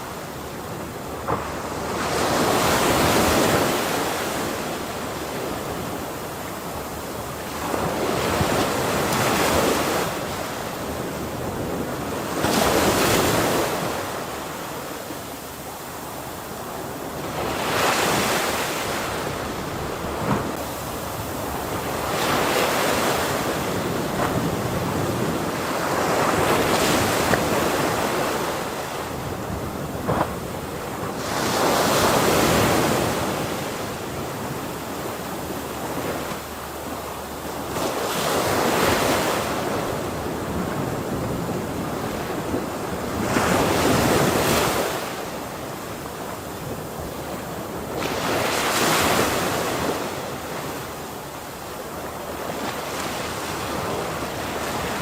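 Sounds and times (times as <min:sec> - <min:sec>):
hiss of surf: 0:00.0 - 0:55.0
ocean waves crashing: 0:00.0 - 0:55.0.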